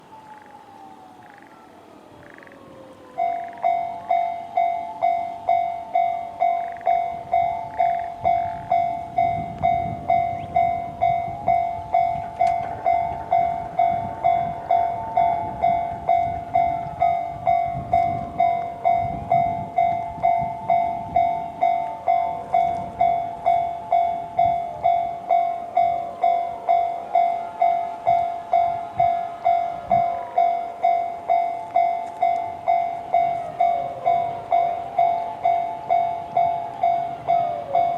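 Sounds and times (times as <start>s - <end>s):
electric train rumbling past: 0.0s - 37.9s
level-crossing warning bell: 0.0s - 37.9s.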